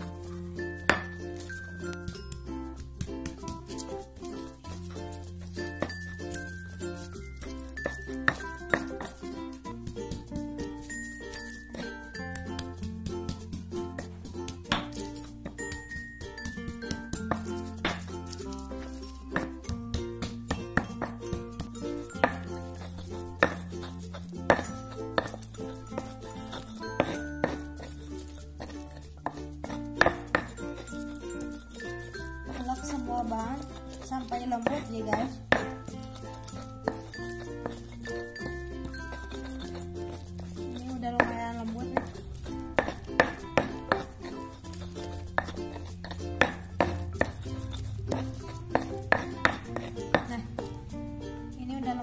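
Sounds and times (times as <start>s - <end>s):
background music: 0.0s - 52.0s
pestle grinding in stone mortar: 0.0s - 52.0s.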